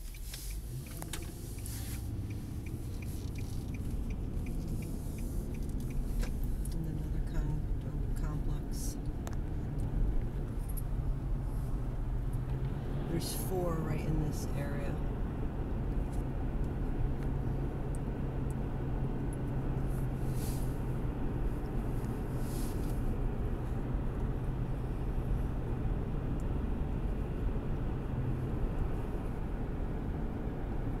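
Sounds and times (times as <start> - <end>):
car engine hum and road noise: 0.0 - 31.0.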